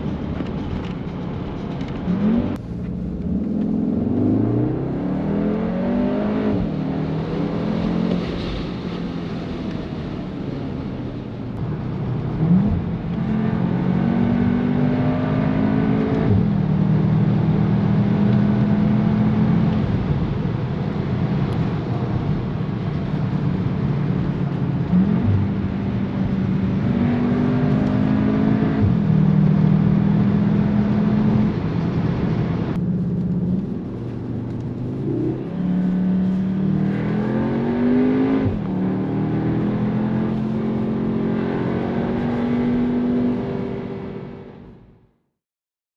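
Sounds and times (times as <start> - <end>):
car engine accelerating hard: 0.0 - 44.8.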